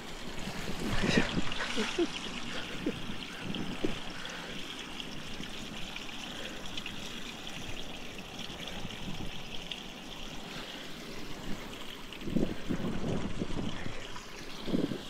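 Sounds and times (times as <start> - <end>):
trickling water-like hiss: 0.0 - 15.0.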